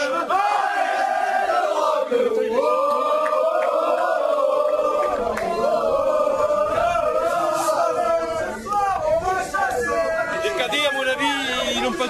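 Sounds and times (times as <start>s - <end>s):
crowd singing a chant: 0.0s - 10.5s.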